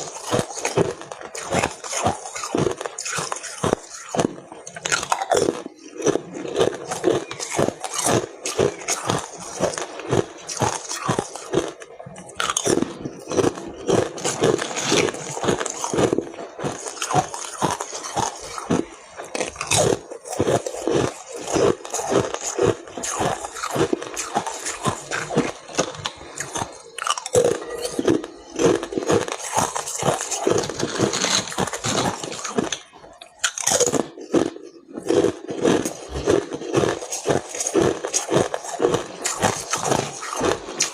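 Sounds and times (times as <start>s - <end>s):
ice crunching while chewed: 0.0s - 40.9s.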